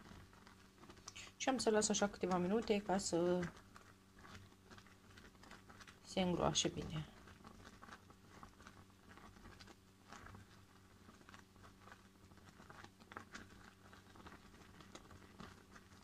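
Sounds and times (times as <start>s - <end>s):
low steady hum: 0.0s - 16.0s
porridge bubbling: 0.0s - 16.0s.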